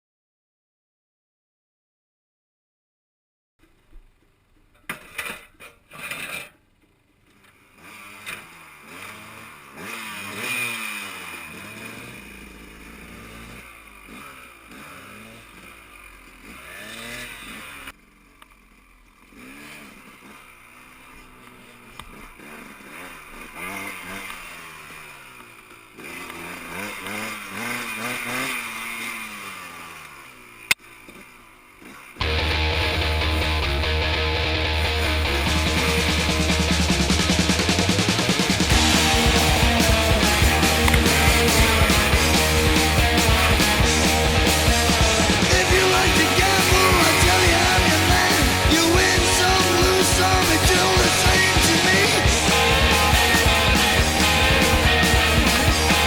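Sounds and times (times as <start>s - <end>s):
dirt bike engine revving: 7.6s - 56.0s.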